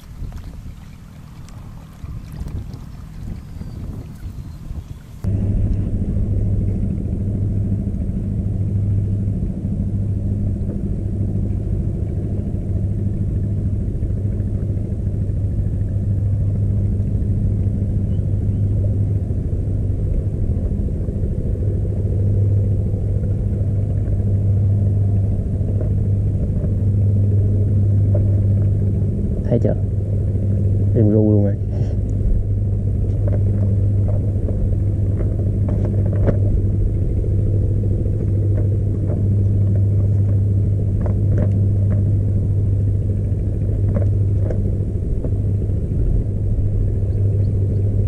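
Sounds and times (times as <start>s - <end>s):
low engine hum: 0.0s - 48.0s.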